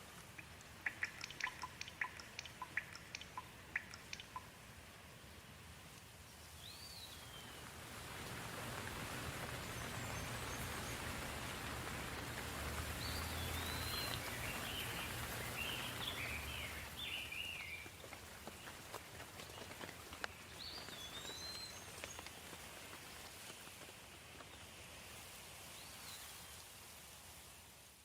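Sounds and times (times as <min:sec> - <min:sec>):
soft rain falling: 0:00.0 - 0:28.0.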